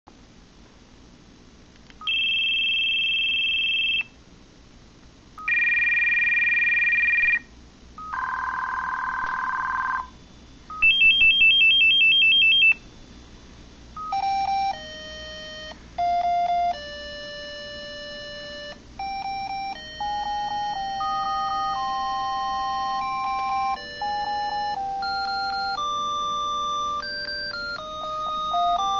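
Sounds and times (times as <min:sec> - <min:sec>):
cell phone ringtones: 0:02.0 - 0:04.1, 0:05.4 - 0:10.1, 0:10.7 - 0:12.8, 0:14.0 - 0:28.9.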